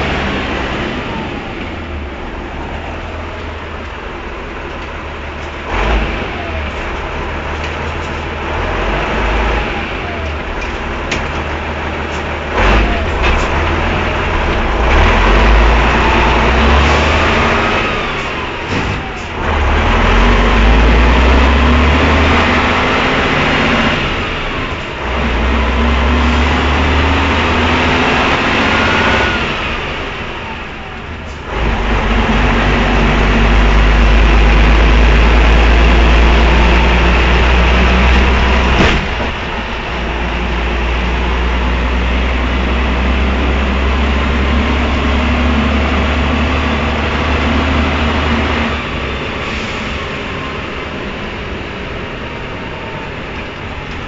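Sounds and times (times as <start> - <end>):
diesel truck engine working hard: 0.0 - 54.0.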